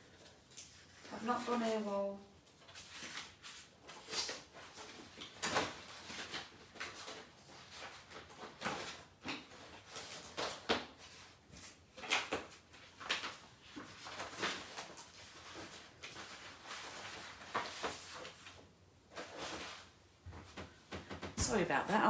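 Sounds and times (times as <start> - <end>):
paper rustling: 0.0 - 21.7.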